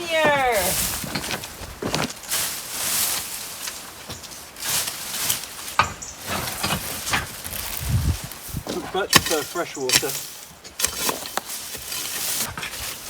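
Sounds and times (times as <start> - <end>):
rustling and scraping in debris: 0.0 - 13.0.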